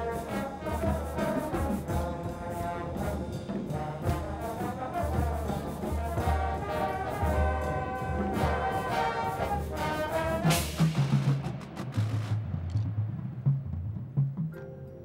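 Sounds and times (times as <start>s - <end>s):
marching band brass chords: 0.0s - 14.5s.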